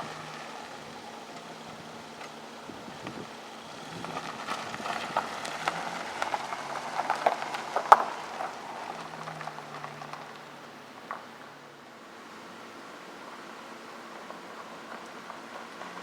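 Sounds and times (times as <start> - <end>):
car engine running quietly: 0.0 - 16.0.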